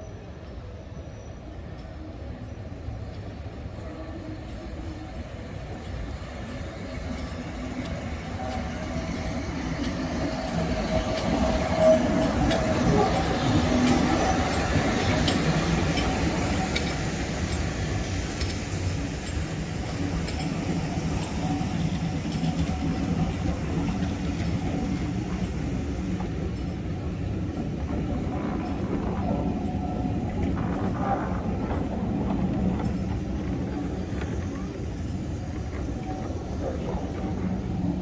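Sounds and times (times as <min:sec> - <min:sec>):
train wheels rumbling on rails: 0:00.0 - 0:38.0
wheels clicking over rail joints: 0:03.0 - 0:38.0.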